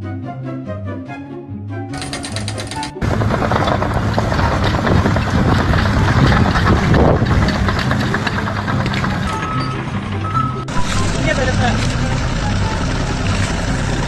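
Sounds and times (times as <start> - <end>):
engine rumbling and clattering: 1.9 - 14.0.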